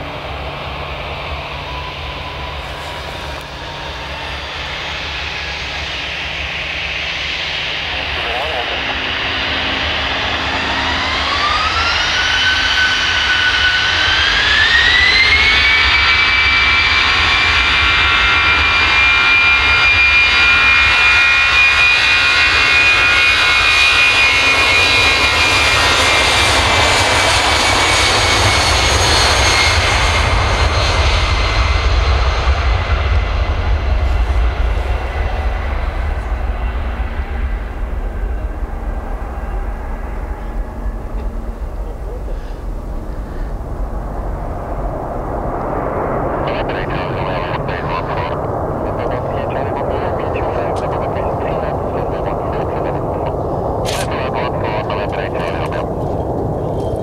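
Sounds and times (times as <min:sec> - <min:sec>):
jet engines whining: 0:00.0 - 0:57.0
low rumble of aircraft rolling: 0:00.0 - 0:57.0.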